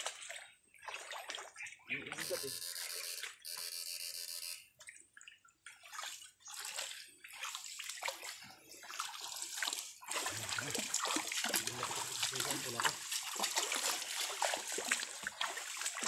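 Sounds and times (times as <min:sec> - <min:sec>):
feet splashing through water: 0:00.0 - 0:02.5, 0:04.8 - 0:16.0.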